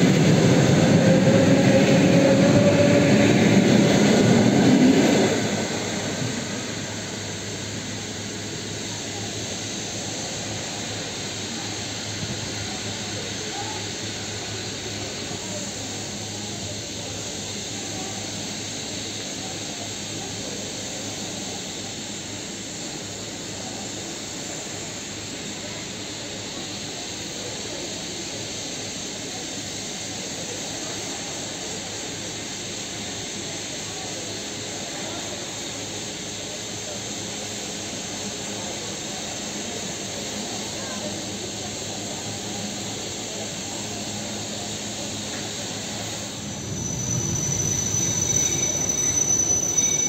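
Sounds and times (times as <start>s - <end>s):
city and railway background hiss: 0.0s - 50.0s.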